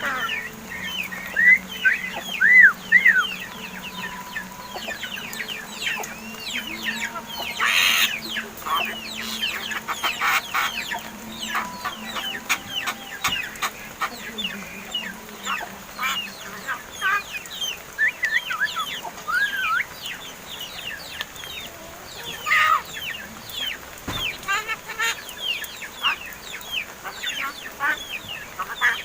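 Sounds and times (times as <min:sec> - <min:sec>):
mynas chattering: 0:00.0 - 0:29.0.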